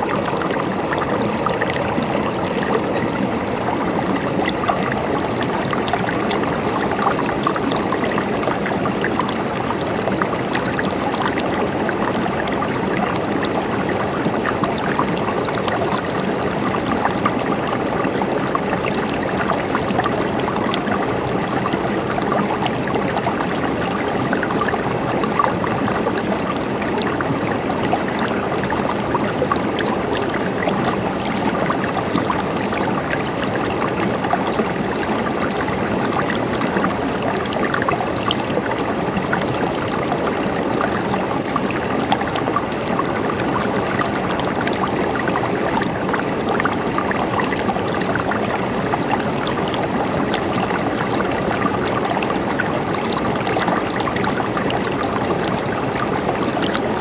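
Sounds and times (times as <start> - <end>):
stream water babbling: 0.0 - 57.0.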